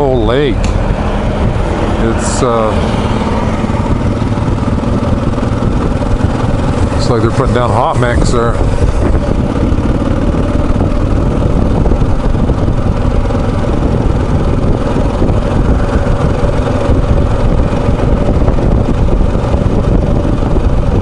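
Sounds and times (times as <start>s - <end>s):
motorcycle engine drone: 0.0s - 21.0s
wind rushing on microphone: 0.0s - 21.0s.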